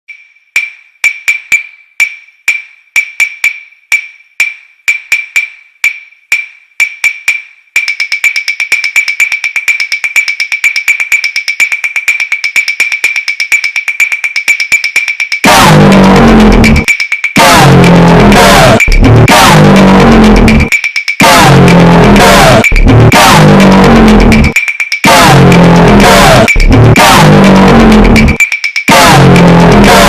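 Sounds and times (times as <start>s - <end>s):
high percussive ticks: 0.1s - 30.0s.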